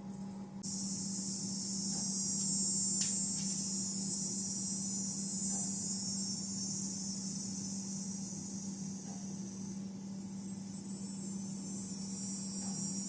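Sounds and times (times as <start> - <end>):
steady low hum: 0.0 - 13.0
insects calling in chorus: 0.6 - 13.0.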